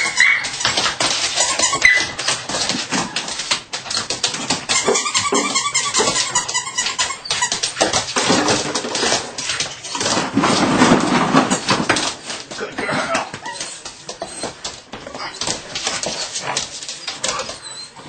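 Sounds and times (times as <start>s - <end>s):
plastic bottles crinkling and clattering: 0.0s - 17.9s.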